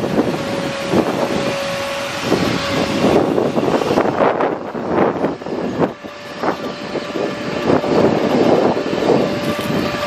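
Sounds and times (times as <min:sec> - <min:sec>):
motor whine: 0:00.0 - 0:10.0
rushing noise: 0:00.0 - 0:10.0.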